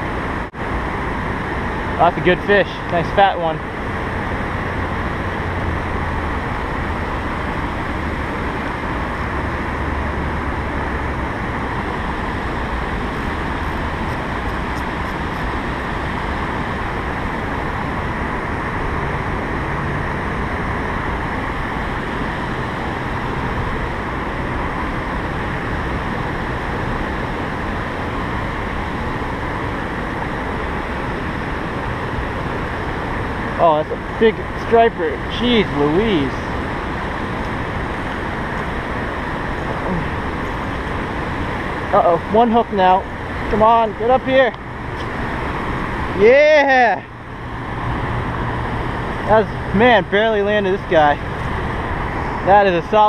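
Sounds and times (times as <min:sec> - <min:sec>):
whitewater rushing: 0:00.0 - 0:53.0.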